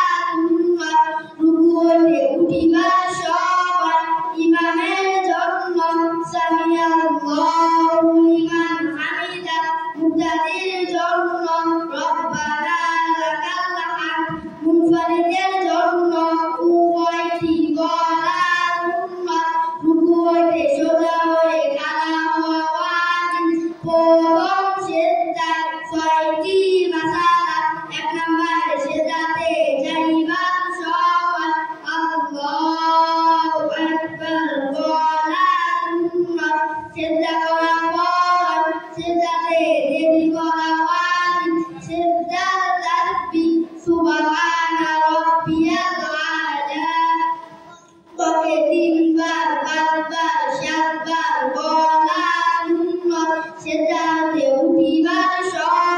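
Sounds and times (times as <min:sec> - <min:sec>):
boys singing into microphones: 0:00.0 - 0:55.9.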